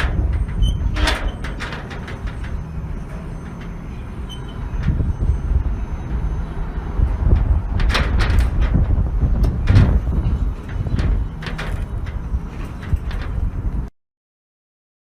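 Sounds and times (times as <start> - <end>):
metal gate clanking: 0.0 - 13.8
low rumble: 0.0 - 13.9.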